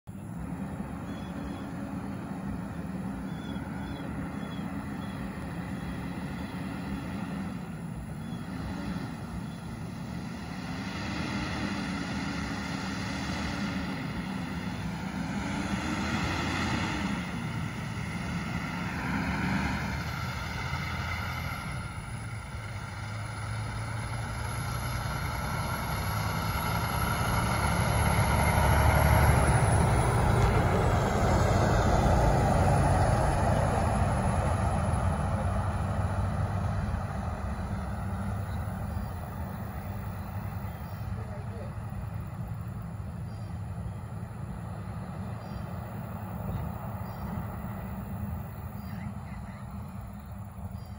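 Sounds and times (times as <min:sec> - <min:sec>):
diesel truck engine shifting gears: 0:00.1 - 0:50.9.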